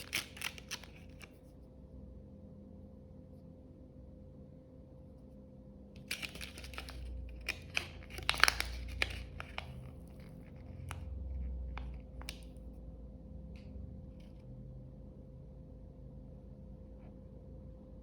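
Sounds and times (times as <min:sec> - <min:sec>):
low steady rumble: 0:00.8 - 0:18.0.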